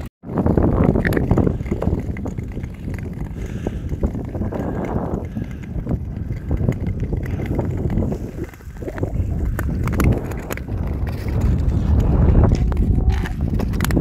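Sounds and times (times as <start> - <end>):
wind buffeting microphone: 0.0 - 14.0
skate blades scraping on ice: 0.4 - 14.0
ski poles clicking on ice: 0.5 - 14.0.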